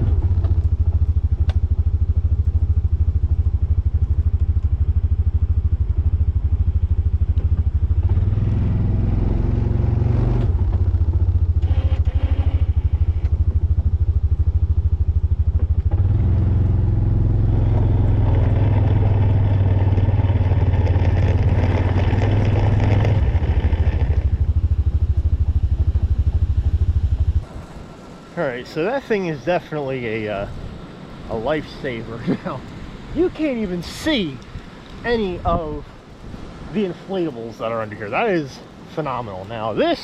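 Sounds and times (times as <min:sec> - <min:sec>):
snowplow engine droning: 0:00.0 - 0:36.2.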